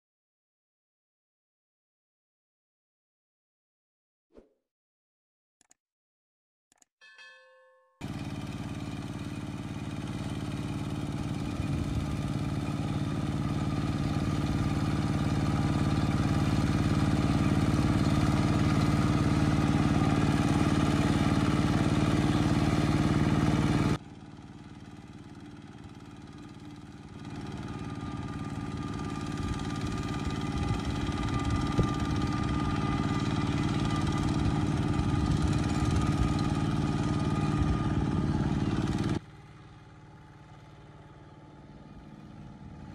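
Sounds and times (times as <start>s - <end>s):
diesel engine running under load: 8.0s - 42.9s.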